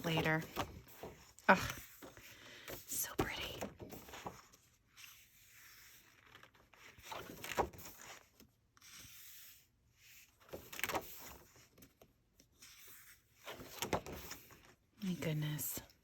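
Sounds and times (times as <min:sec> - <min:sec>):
paper pages turning: 0:00.0 - 0:14.8.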